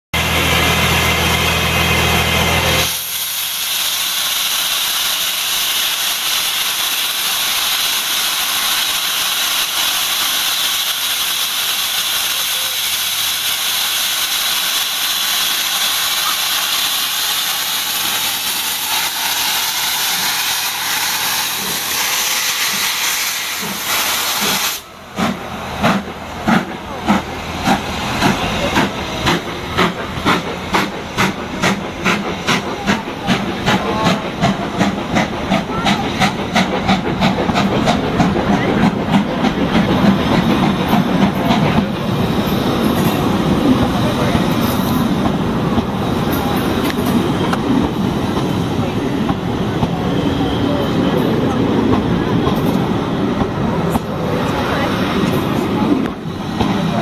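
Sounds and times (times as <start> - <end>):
steam locomotive exhaust beats: 0.2 - 57.0
steam locomotive hissing: 0.2 - 57.0.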